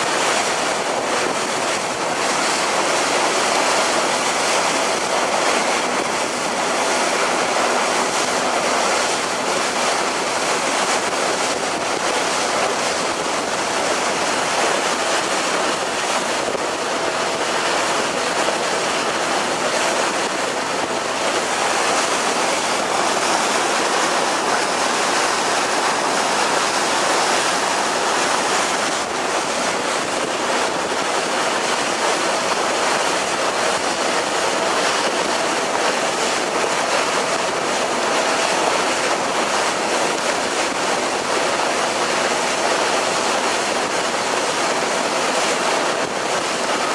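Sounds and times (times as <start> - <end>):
rushing water: 0.0 - 46.9
wind: 0.0 - 46.9.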